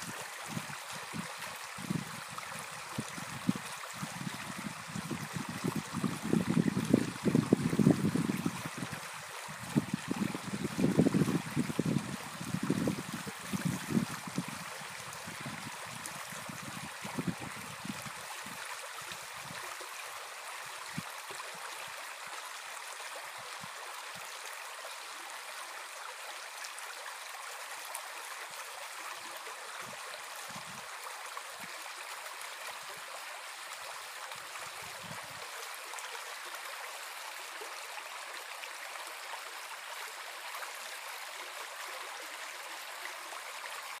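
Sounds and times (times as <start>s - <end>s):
brook babbling over stones: 0.0s - 44.0s.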